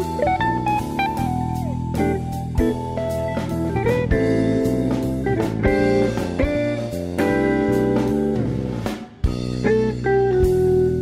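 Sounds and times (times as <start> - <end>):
blues guitar tune with bass and drums: 0.0 - 11.0.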